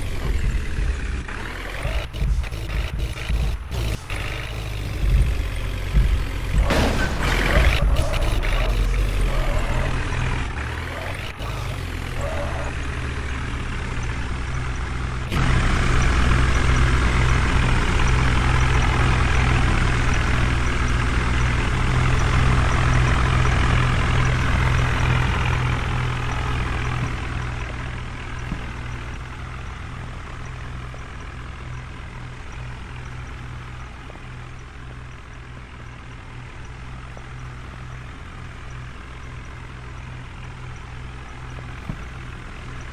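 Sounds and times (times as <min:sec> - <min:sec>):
clatter: 0:00.0 - 0:42.9
diesel machinery engine running: 0:00.0 - 0:42.9.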